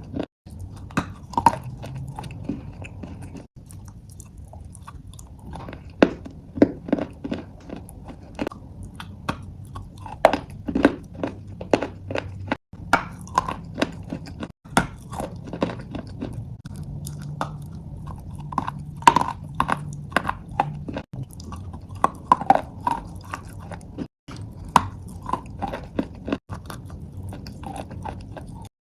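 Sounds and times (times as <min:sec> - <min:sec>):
chewing chalk crunches: 0:00.0 - 0:28.7.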